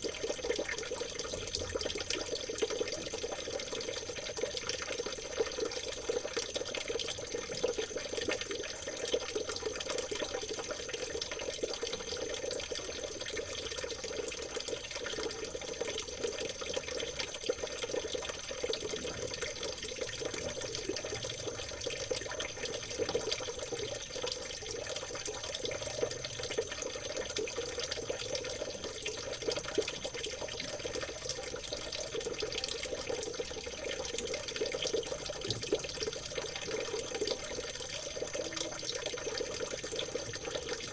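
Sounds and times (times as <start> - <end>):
stream trickling and babbling: 0.0 - 40.9.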